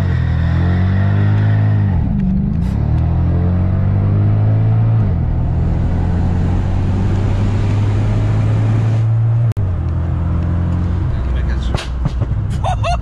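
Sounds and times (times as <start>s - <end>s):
car engine droning: 0.0s - 13.0s
road and wind noise: 0.0s - 13.0s.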